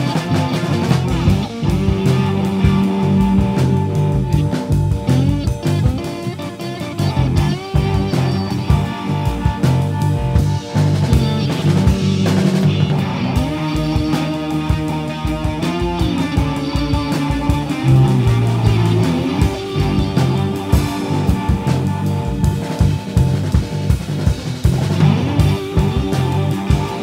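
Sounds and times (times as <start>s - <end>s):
drum kit: 0.0s - 27.0s
electric guitar bending notes: 0.0s - 27.0s
strong low bass notes: 0.0s - 27.0s.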